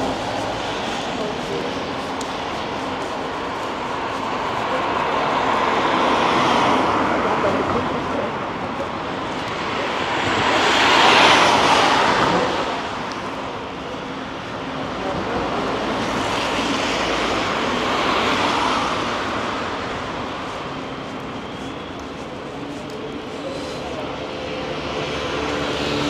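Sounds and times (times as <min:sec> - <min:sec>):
street noise: 0:00.0 - 0:26.0
tyres hissing on wet street: 0:00.0 - 0:26.0.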